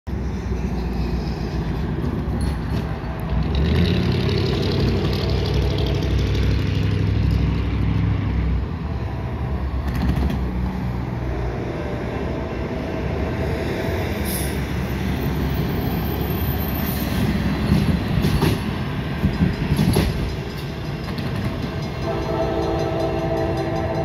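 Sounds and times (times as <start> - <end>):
diesel locomotive engine rumbling: 0.1 - 24.0.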